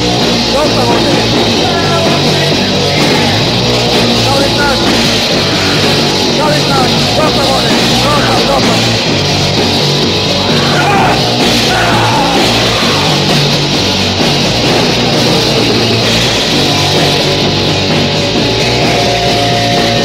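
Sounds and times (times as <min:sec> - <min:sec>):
punk band with electric guitar: 0:00.0 - 0:20.0.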